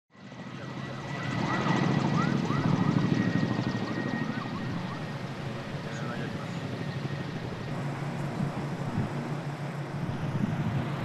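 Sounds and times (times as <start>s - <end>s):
helicopter rotor beating: 0.2s - 11.0s.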